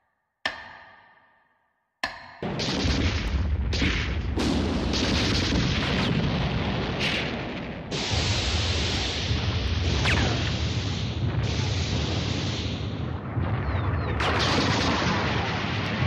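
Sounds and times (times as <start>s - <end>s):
heavy explosions rumbling: 2.4s - 16.0s.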